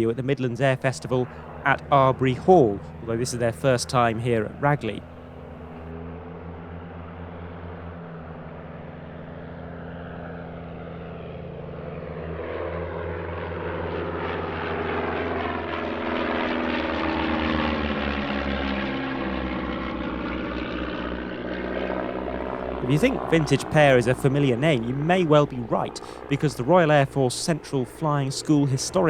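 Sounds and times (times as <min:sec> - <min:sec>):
propeller aircraft engines droning: 0:00.0 - 0:29.0.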